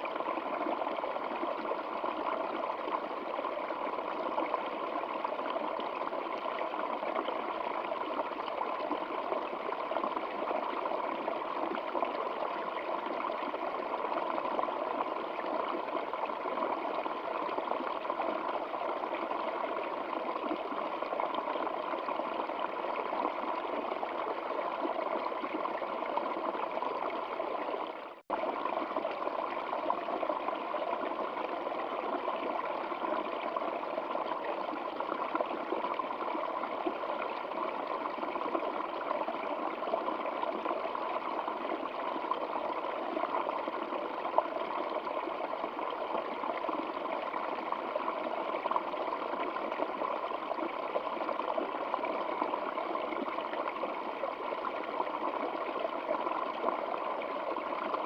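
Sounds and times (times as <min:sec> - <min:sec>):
stream water rushing and trickling: 0:00.0 - 0:58.0.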